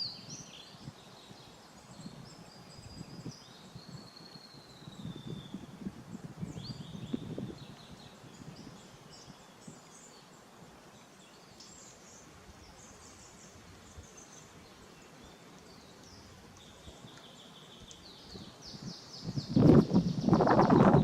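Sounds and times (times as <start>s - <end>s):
birds chirping: 0.0s - 21.0s
soft steady background hiss: 0.0s - 21.0s.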